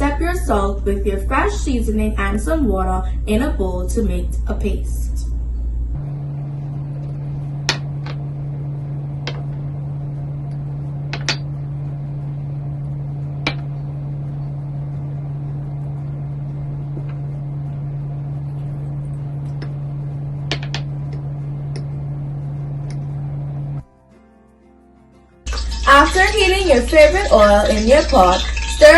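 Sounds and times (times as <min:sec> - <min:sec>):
low mechanical hum: 0:00.0 - 0:23.9, 0:25.5 - 0:28.9.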